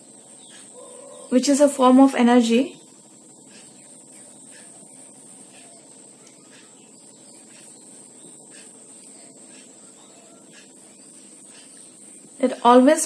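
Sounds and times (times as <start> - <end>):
steady high-pitched tone: 0.0 - 13.0.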